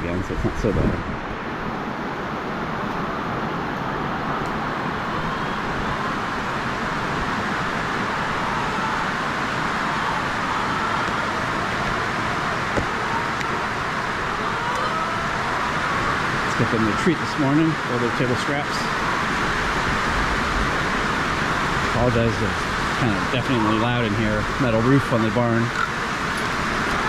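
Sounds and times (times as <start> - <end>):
heavy rain on a metal roof: 0.0 - 27.0.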